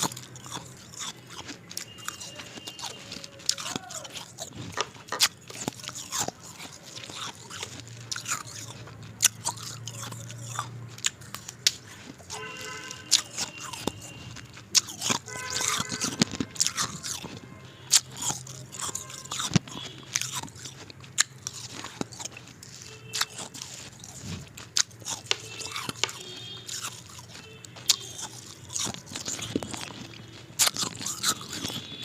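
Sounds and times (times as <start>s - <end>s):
ice being chewed: 0.0s - 32.0s.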